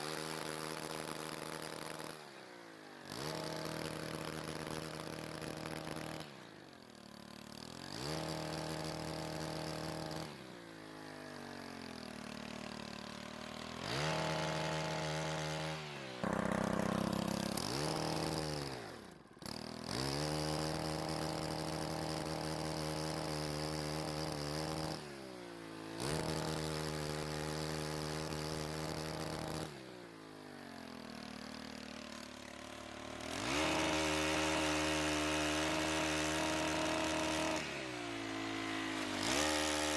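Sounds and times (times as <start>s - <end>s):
pole chainsaw engine revving: 0.0s - 39.9s.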